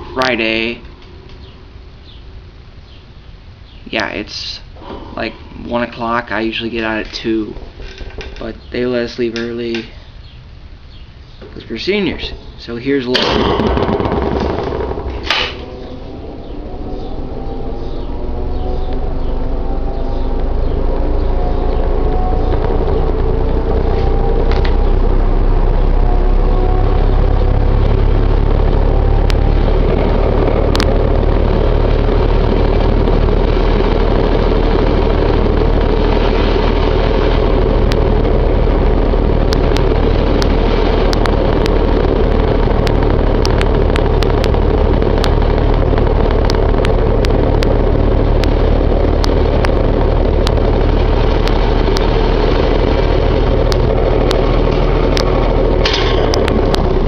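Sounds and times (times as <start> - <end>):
fan ticking and rattling: 0.0 - 57.0
box fan motor hum: 5.5 - 57.0.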